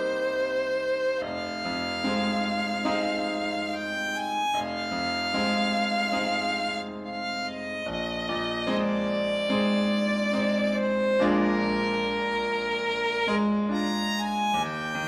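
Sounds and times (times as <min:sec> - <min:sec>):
slow instrumental music: 0:00.0 - 0:15.0.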